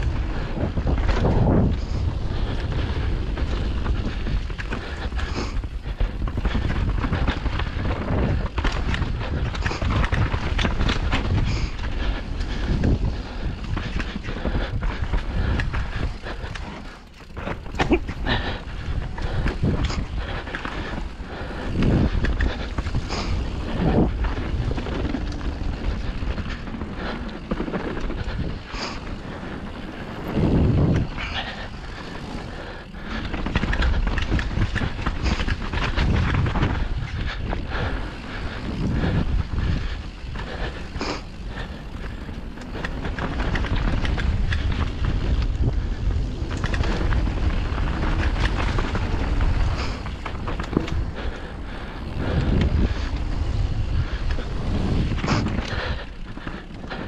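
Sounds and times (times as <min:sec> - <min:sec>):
bike rattling and knocking: 0:00.0 - 0:57.0
tyres on rough trail: 0:00.0 - 0:57.0
wind buffeting microphone: 0:00.0 - 0:57.0.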